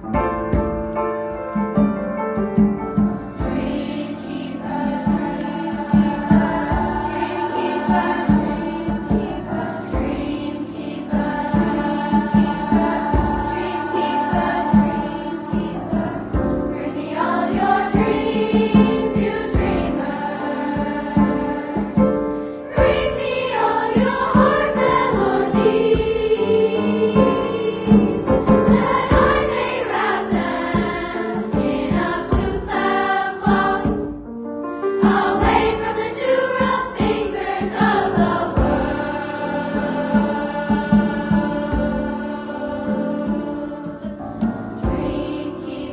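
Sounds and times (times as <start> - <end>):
choir singing in harmony: 2.6 - 45.9.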